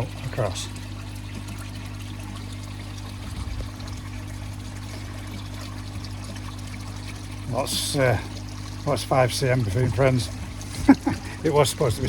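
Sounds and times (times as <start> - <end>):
low steady hum: 0.0 - 12.0
water pouring into pond: 0.0 - 12.0.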